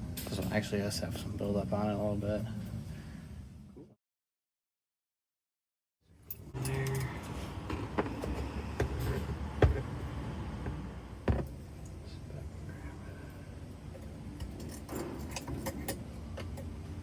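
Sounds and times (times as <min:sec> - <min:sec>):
steady low hum: 0:00.0 - 0:04.0, 0:06.1 - 0:17.0.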